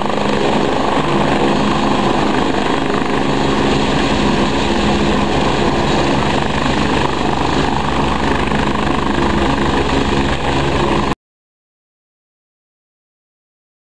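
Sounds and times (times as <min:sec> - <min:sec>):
helicopter engine and rotor: 0:00.0 - 0:11.2.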